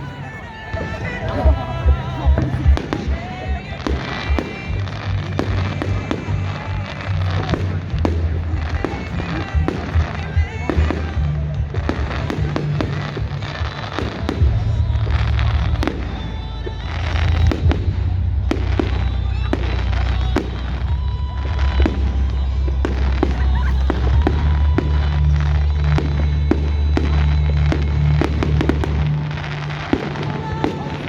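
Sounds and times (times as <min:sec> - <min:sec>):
fireworks bangs and crackling: 0:00.0 - 0:31.0
music with heavy bass: 0:00.0 - 0:31.0.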